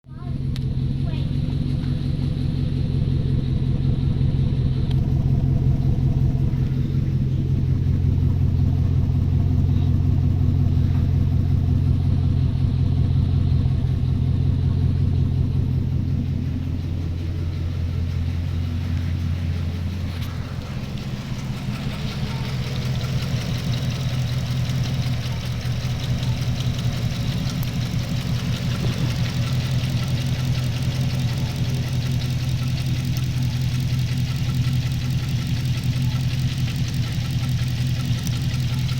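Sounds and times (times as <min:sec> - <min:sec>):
engine idling with misfire: 0:00.0 - 0:38.9.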